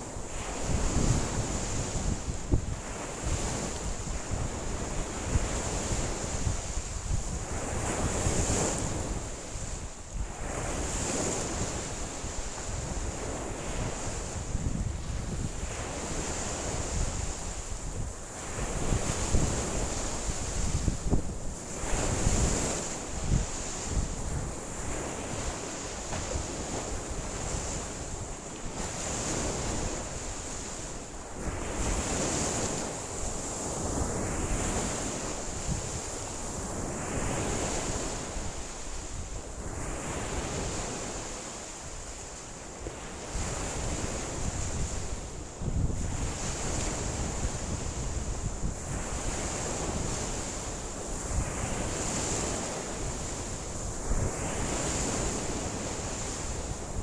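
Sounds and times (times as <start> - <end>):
wind buffeting microphone: 0.0 - 41.2, 42.9 - 57.0
waves washing onto shore: 0.0 - 57.0.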